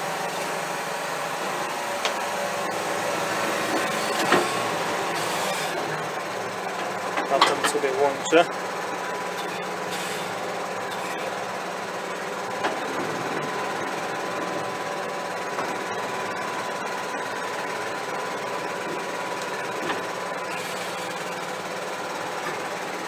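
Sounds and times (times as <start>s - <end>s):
steady whine: 0.0s - 23.0s
tractor diesel engine running: 0.0s - 23.0s.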